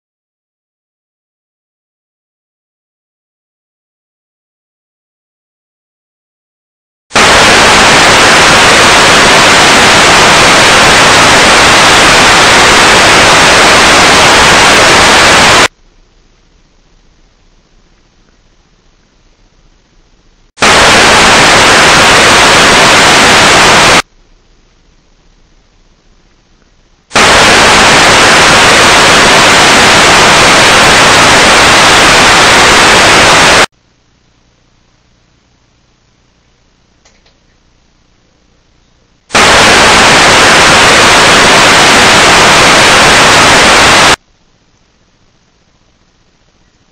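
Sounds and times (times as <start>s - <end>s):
television static hiss: 7.1s - 46.9s.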